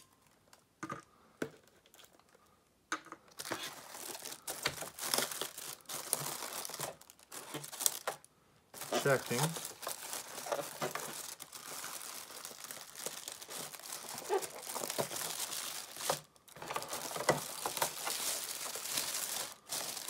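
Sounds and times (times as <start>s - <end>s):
plastic bag crinkling: 1.6s - 2.4s, 3.3s - 20.0s.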